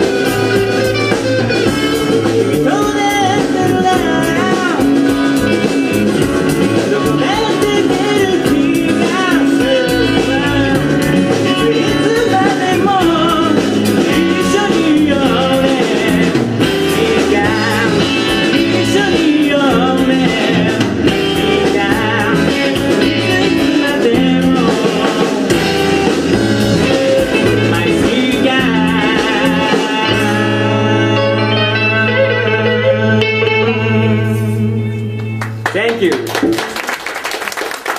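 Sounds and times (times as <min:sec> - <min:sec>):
man singing lead vocal: 0:00.0 - 0:35.0
rock band playing: 0:00.0 - 0:37.9.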